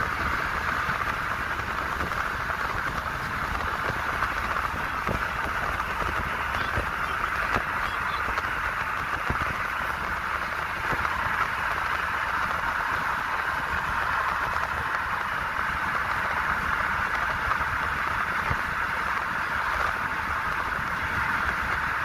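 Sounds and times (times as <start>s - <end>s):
road and wind noise in car: 0.0s - 22.0s.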